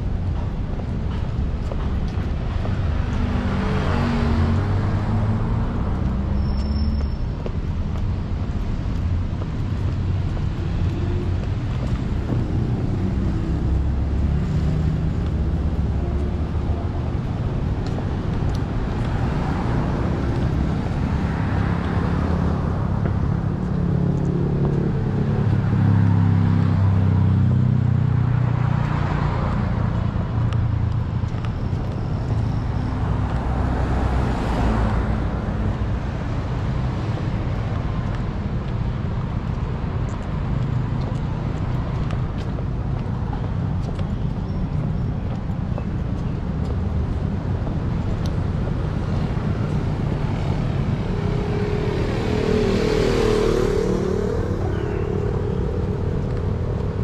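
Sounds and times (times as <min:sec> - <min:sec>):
cars driving past: 0:00.0 - 0:57.0
low hum of engines: 0:00.0 - 0:57.0.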